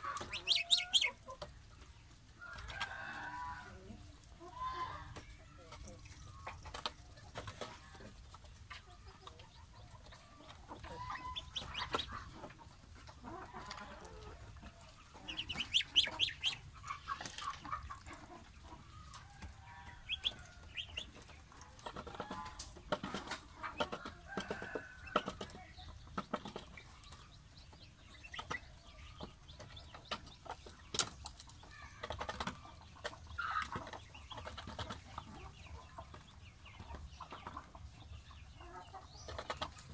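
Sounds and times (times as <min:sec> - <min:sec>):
goslings peeping: 0:00.0 - 0:02.0, 0:08.0 - 0:39.9.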